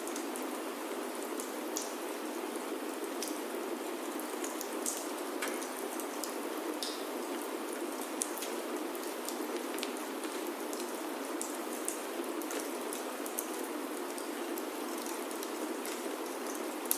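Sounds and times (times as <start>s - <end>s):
rain on a wooden roof: 0.0s - 16.9s.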